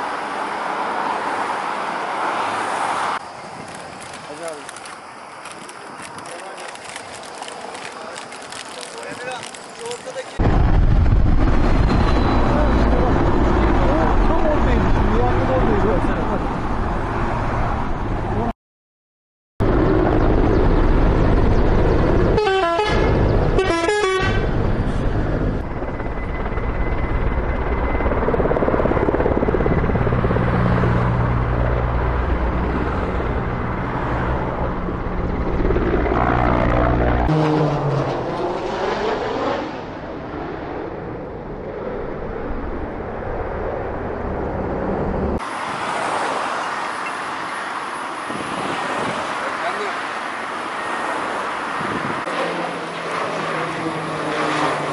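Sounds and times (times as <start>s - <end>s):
road traffic: 0.0s - 18.5s, 19.6s - 54.9s
helicopter engine and rotor: 3.2s - 18.4s, 19.6s - 23.7s, 24.3s - 37.6s, 38.8s - 45.9s, 46.6s - 54.9s.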